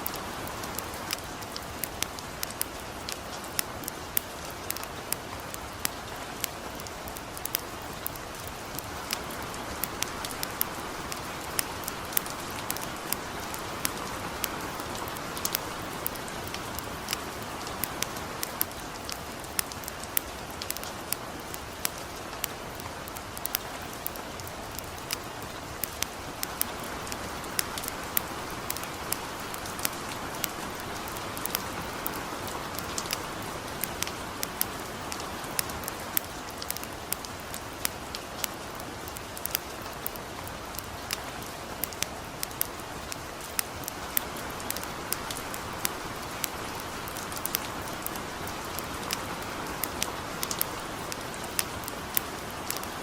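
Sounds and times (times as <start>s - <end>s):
campfire crackling: 0.0s - 53.0s
gentle rain hissing: 0.0s - 53.0s.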